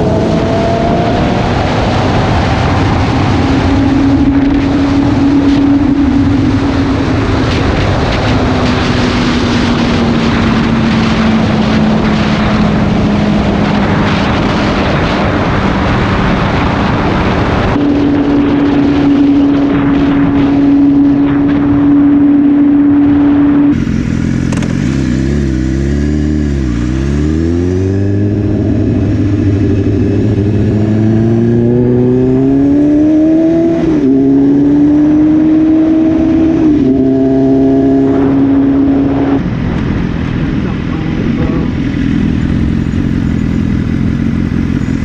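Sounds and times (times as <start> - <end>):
motorcycle engine revving: 0.0 - 45.0
wind rush: 0.0 - 45.0.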